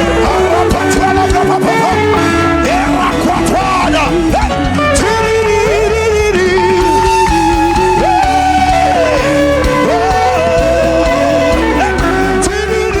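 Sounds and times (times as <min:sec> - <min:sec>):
full band backing: 0:00.0 - 0:13.0
lead guitar slow melody: 0:00.0 - 0:13.0.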